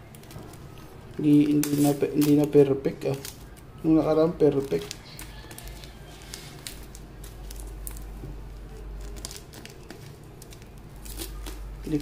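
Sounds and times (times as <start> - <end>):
tape and paper crinkling: 0.0 - 12.0.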